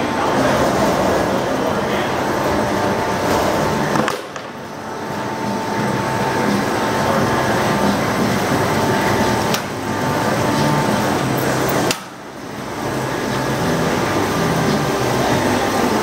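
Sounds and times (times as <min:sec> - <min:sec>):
conveyor machinery running: 0:00.0 - 0:16.0
forklift working: 0:00.0 - 0:16.0
high machine whine: 0:00.0 - 0:16.0.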